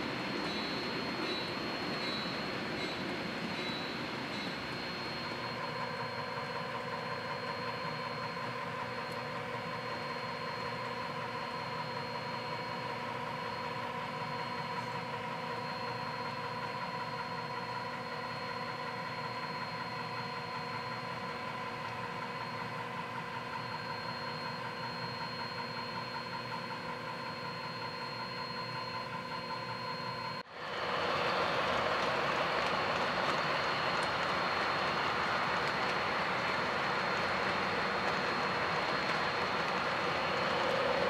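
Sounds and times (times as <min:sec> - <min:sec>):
model train humming: 0:00.0 - 0:41.0.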